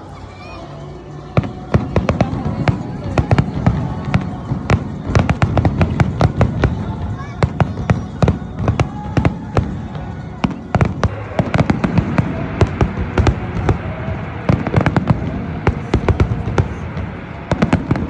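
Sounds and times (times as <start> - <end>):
fireworks bangs and crackles: 1.4 - 18.0.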